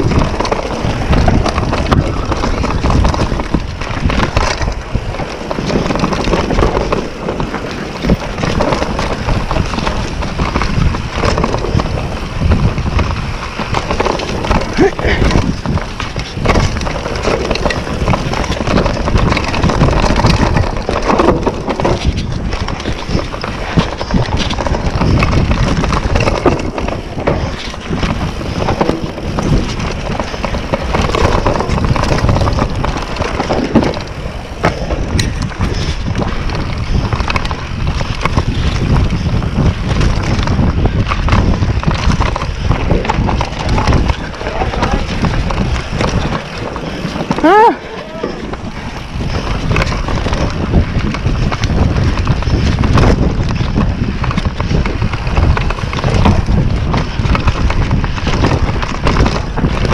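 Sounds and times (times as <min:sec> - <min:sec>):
bike rattling and knocking: 0:00.0 - 0:59.9
tyres rumbling over ground: 0:00.0 - 0:59.9
wind over microphone: 0:00.0 - 0:59.9.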